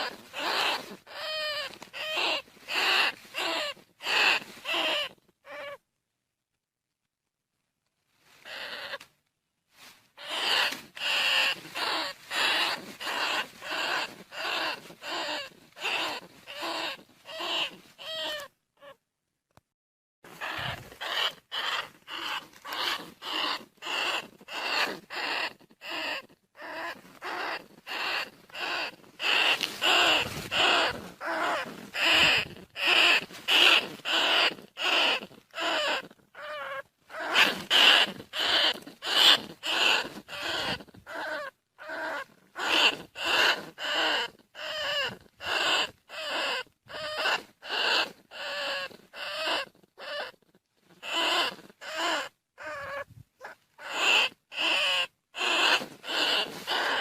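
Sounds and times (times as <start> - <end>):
rat squeaks: 0.0 - 5.8, 8.4 - 9.1, 10.2 - 19.0, 20.3 - 57.0.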